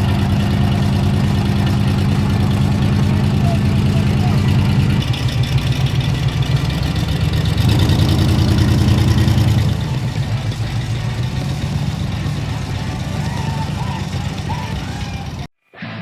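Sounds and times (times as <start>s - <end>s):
vehicle engine idling: 0.0s - 15.5s.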